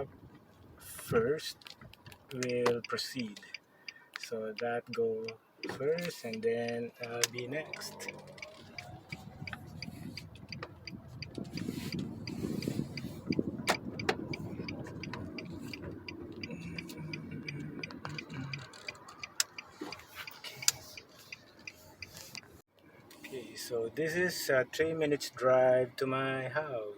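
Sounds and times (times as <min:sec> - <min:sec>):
engine and road rumble: 0:00.0 - 0:26.9
turn signal clicking: 0:01.0 - 0:23.3.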